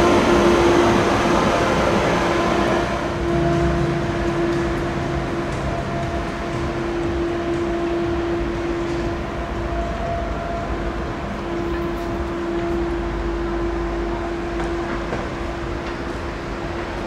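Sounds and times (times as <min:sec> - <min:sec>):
electric train hum: 0:00.0 - 0:17.0
wheels rumbling on rail: 0:00.0 - 0:17.0.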